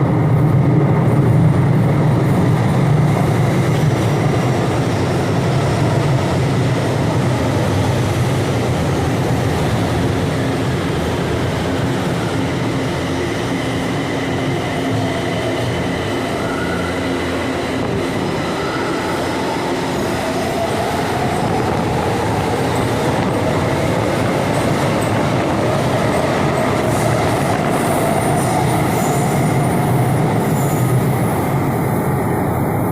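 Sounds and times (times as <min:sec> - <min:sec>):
metro train running on track: 0:00.0 - 0:32.9.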